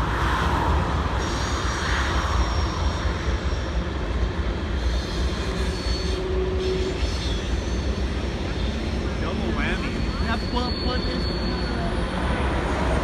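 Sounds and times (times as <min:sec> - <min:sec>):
heavy vehicle rumble and hiss: 0:00.0 - 0:13.0.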